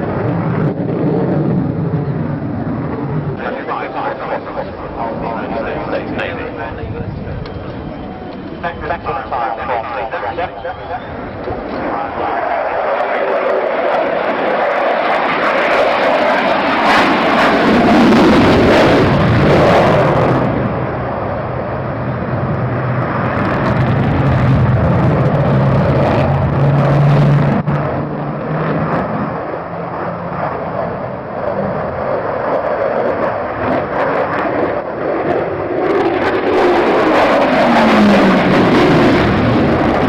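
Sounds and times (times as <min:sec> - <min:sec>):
aircraft engine noise: 0:00.0 - 0:40.0.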